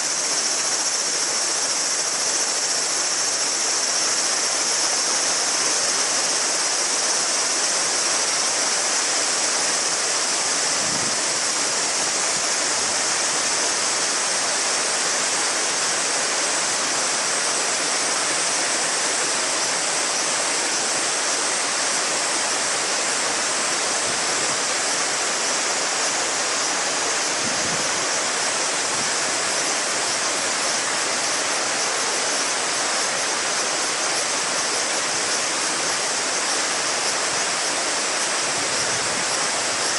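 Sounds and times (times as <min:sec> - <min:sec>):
cicada chorus: 0:00.0 - 0:39.9
river babbling over stones: 0:00.0 - 0:39.9.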